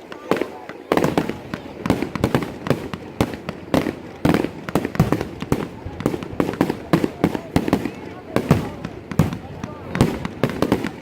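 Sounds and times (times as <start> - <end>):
fireworks exploding: 0.0 - 11.0.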